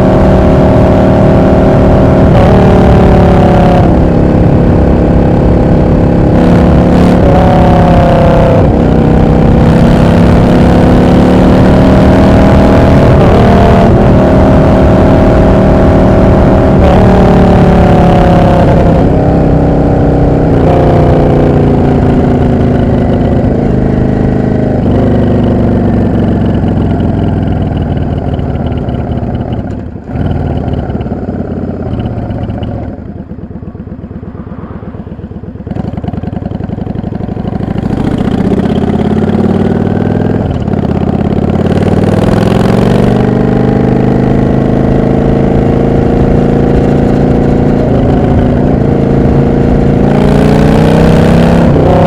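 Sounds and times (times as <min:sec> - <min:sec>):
motorcycle engine shifting gears: 0:00.0 - 0:52.0.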